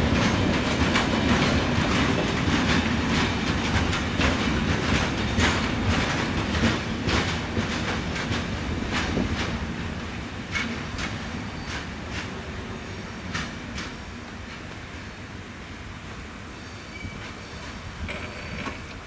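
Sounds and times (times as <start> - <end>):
freight train wheels clattering: 0.0 - 14.9, 16.6 - 19.0.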